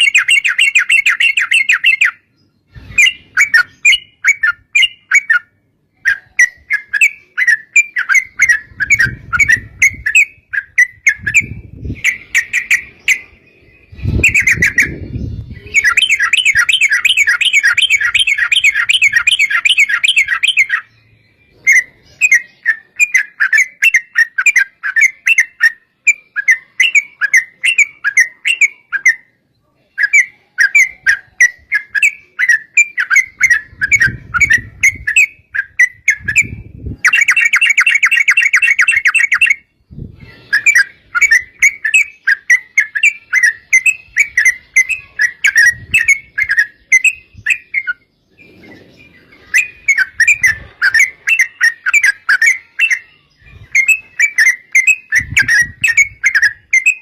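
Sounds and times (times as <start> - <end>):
bulbul singing chirped phrases: 0.0 - 48.3, 49.2 - 57.0.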